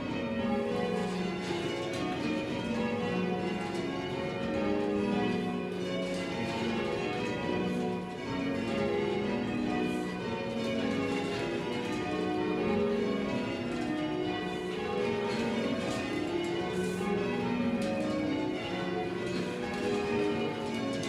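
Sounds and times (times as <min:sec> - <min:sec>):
church bells change ringing: 0:00.0 - 0:21.0.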